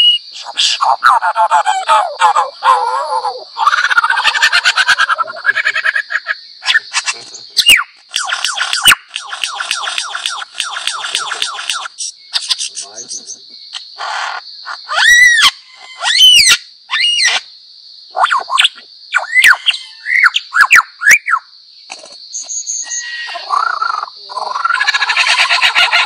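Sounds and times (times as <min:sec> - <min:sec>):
lyrebird singing: 0:00.0 - 0:17.5, 0:18.1 - 0:26.0.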